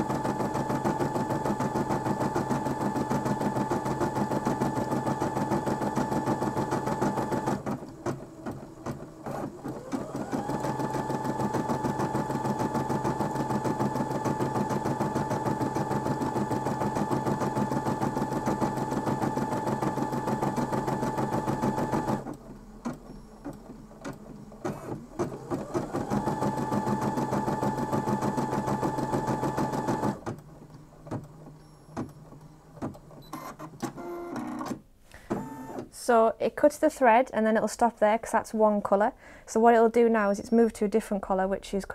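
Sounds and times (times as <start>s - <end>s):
embroidery machine stitching: 0.0s - 30.4s, 32.8s - 35.9s.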